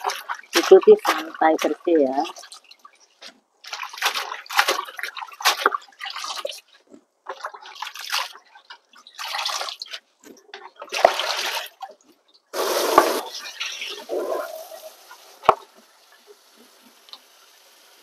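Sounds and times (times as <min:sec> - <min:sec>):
water splashing in a basin: 0:00.0 - 0:17.3.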